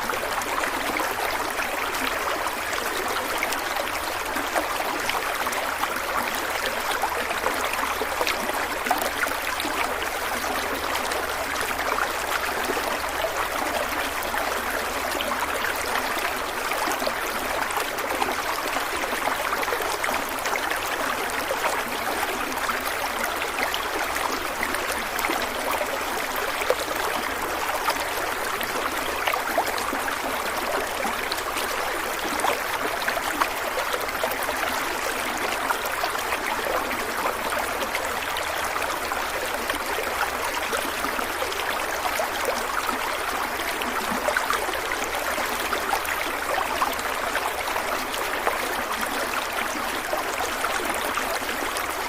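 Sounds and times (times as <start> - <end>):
stream flowing: 0.0 - 52.0.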